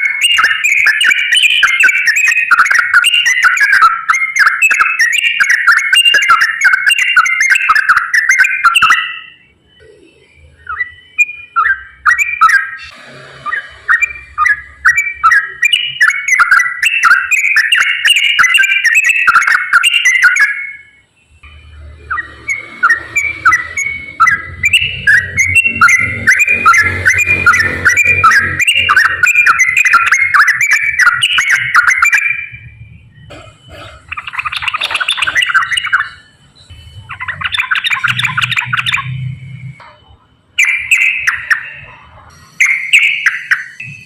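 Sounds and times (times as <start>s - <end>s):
bird chattering song: 0.0s - 44.0s.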